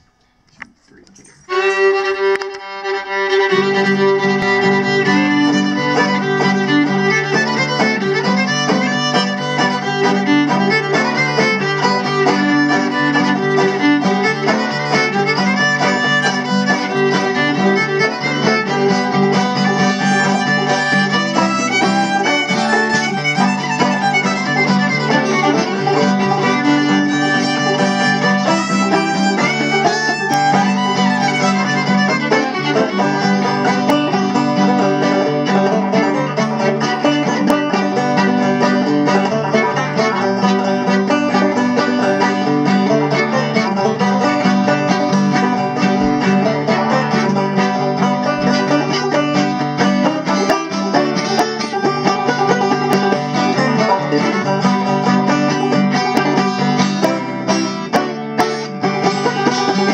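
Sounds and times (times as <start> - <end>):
banjo and guitar accompaniment: 0.0 - 59.9
fiddle melody: 0.0 - 59.9.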